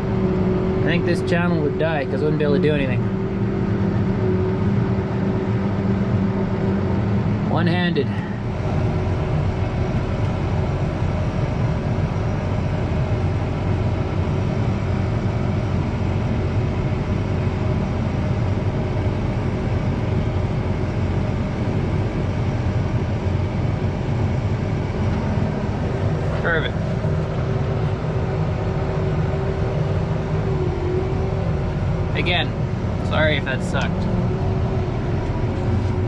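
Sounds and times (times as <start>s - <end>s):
farm vehicle engine rumbling: 0.0s - 36.0s.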